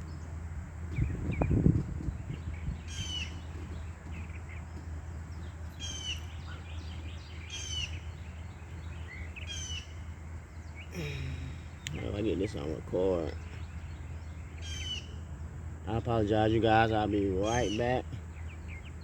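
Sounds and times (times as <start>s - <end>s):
low hum: 0.0s - 17.4s
bird calling: 0.0s - 19.0s.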